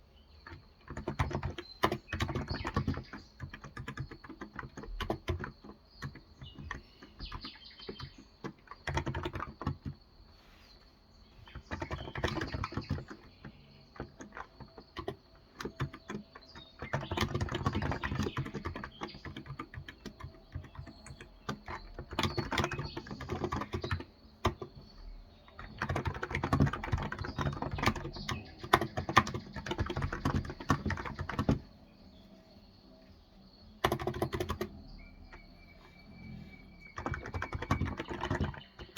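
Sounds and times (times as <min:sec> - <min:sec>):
keyboard typing: 0:00.4 - 0:10.1, 0:11.4 - 0:38.9.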